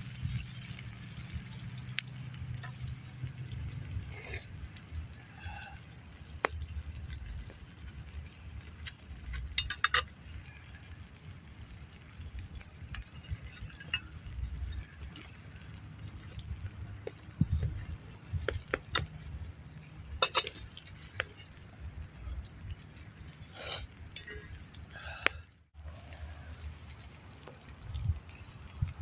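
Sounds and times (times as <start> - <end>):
clicks and clinks of cooking: 0.0 - 29.0.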